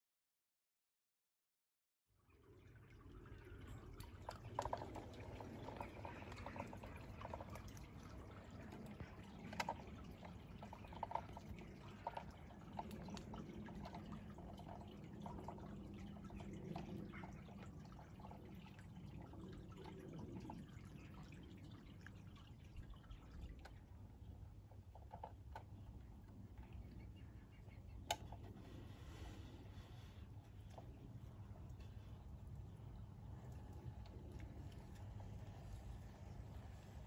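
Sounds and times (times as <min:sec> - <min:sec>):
low steady hum: 0:02.2 - 0:37.0.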